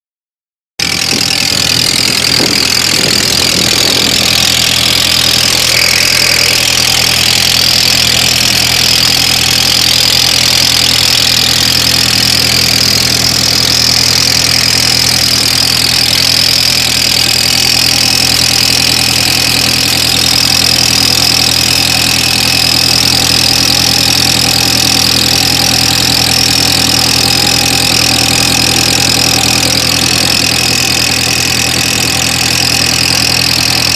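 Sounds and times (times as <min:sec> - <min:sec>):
car engine idling: 0:00.8 - 0:33.9
high-pitched engine whine: 0:00.8 - 0:33.9.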